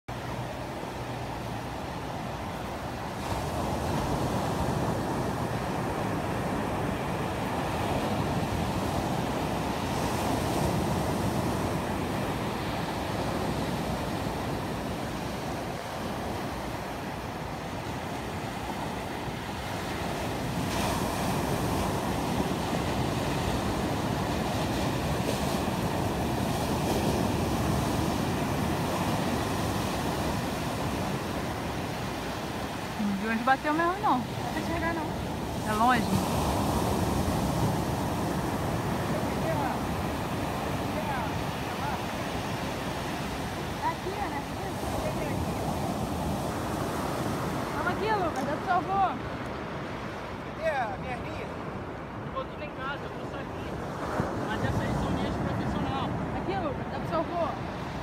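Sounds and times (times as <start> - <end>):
ocean surf breaking: 0.1 - 58.0
wind on microphone: 2.2 - 52.4.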